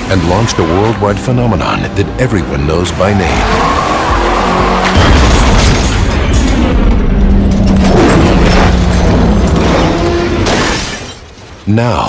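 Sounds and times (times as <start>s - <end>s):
trailer music: 0.0s - 10.8s.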